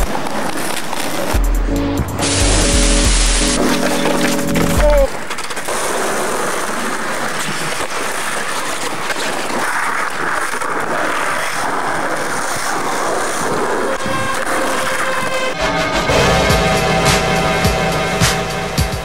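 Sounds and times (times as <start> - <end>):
skateboard wheels rolling on pavement: 0.0 - 16.2.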